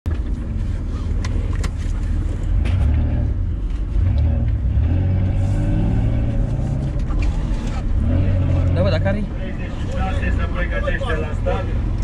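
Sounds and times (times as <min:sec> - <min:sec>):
car engine running: 0:00.1 - 0:12.0.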